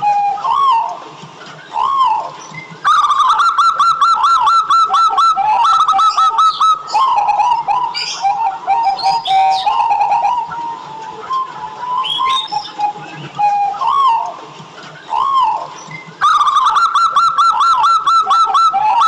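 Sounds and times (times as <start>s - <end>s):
dove calling: 0.0s - 19.0s.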